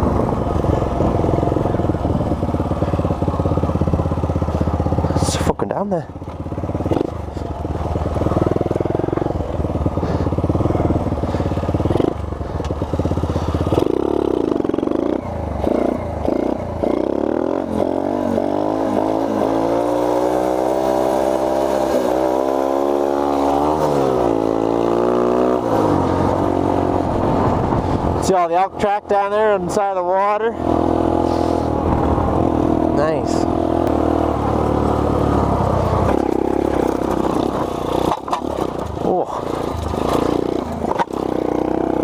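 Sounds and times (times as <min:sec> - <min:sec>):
mini bike engine running: 0:00.0 - 0:27.3, 0:30.7 - 0:42.0
wind: 0:00.0 - 0:42.0.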